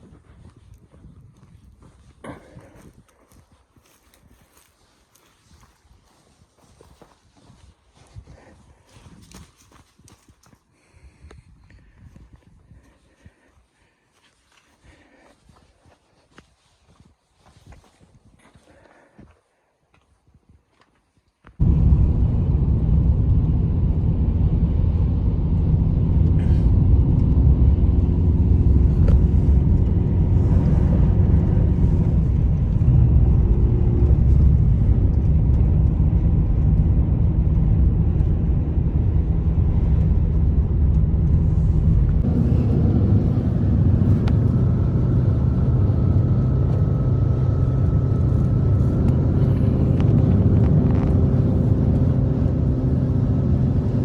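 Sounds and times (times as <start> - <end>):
blizzard wind buffeting microphone: 0.0 - 10.2, 10.8 - 14.2, 21.6 - 54.0.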